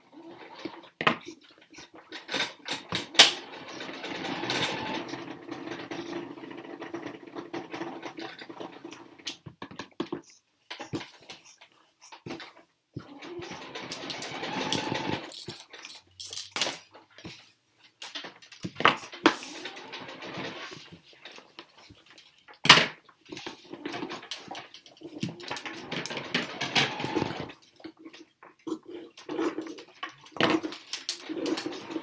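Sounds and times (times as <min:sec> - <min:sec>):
rustling and scraping noises: 0:00.1 - 0:09.4, 0:10.0 - 0:32.0.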